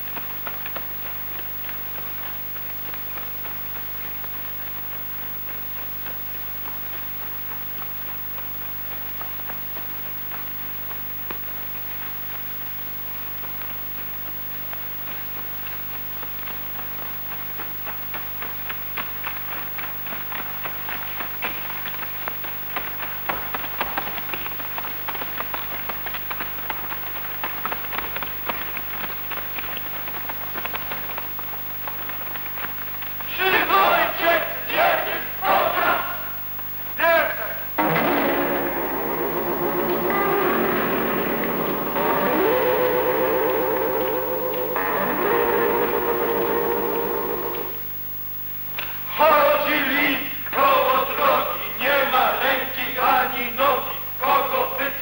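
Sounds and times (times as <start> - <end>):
recording hiss and hum: 0.0 - 55.0.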